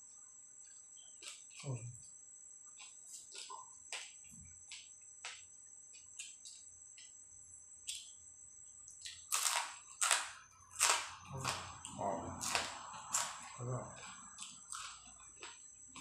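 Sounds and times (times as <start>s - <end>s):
cricket trill: 0.0s - 16.0s.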